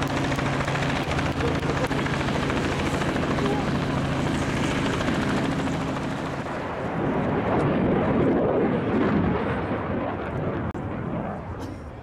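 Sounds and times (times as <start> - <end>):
helicopter rotor and engine hum: 0.0 - 12.0.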